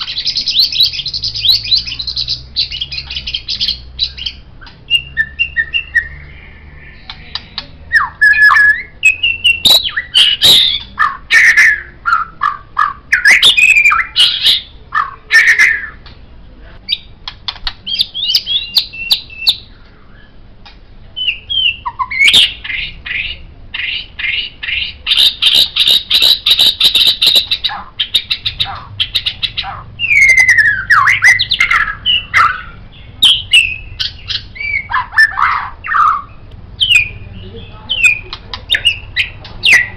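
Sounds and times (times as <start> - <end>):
songbird singing varied whistles: 0.0 - 16.0, 17.8 - 20.4, 21.2 - 39.9.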